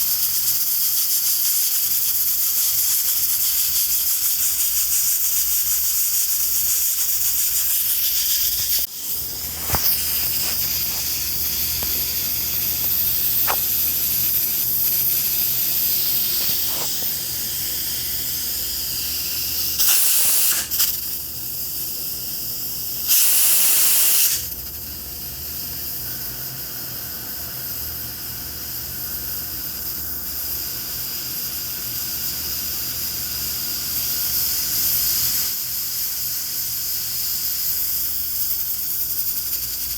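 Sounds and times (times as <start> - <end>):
steam spurts: 0.0 - 21.1, 23.0 - 24.5, 29.2 - 39.9
pressure cooker hissing: 0.0 - 39.9.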